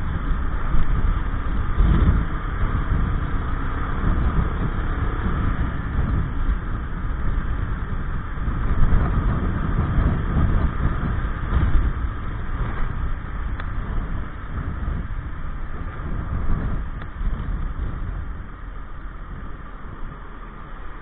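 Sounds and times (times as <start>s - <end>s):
road rumble: 0.0s - 21.0s
scooter engine running: 0.0s - 21.0s
wind noise on microphone: 0.0s - 21.0s.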